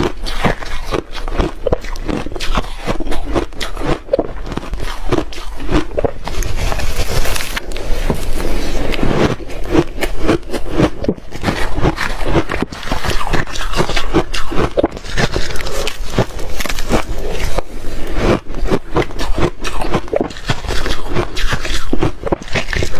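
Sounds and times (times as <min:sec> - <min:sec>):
shaved ice crunching being chewed: 0:00.0 - 0:22.9.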